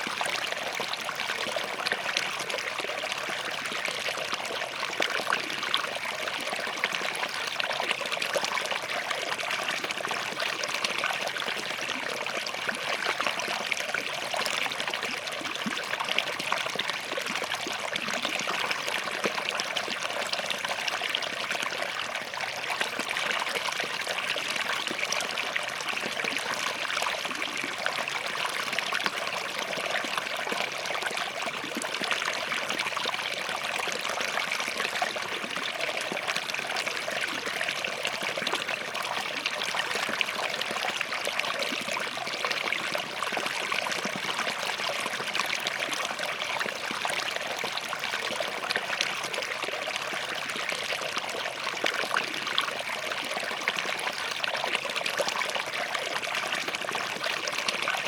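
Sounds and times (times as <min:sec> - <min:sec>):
stream bubbling over rocks: 0:00.0 - 0:58.0.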